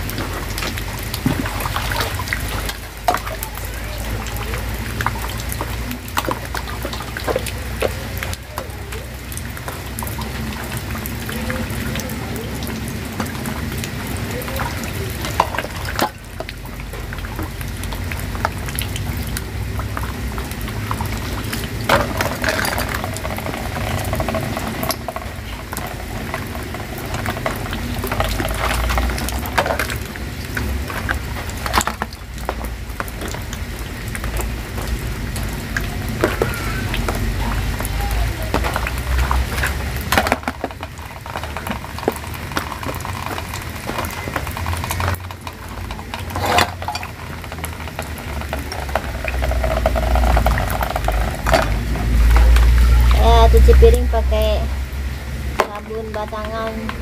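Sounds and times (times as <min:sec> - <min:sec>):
plastic dishes clattering: 0:00.0 - 0:08.8, 0:09.6 - 0:18.7, 0:19.9 - 0:54.0, 0:55.4 - 0:57.0
plastic dishes scrubbed and rinsed: 0:00.0 - 0:57.0
rain falling: 0:00.0 - 0:57.0.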